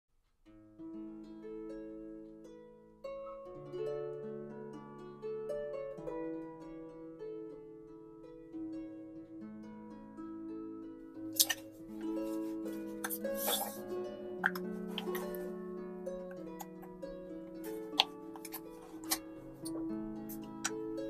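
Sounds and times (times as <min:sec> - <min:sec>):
harp playing gentle melody: 0:00.4 - 0:21.0.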